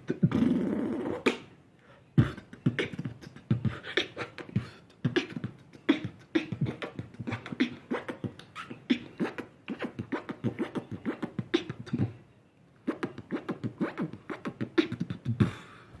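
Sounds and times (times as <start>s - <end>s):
vocal beatboxing: 0.0s - 1.6s, 2.2s - 12.2s, 12.8s - 15.8s.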